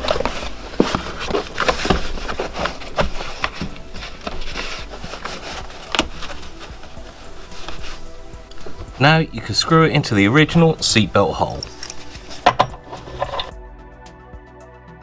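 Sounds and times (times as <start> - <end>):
carpet scraping and rustling: 0.0 - 9.8, 10.5 - 13.5.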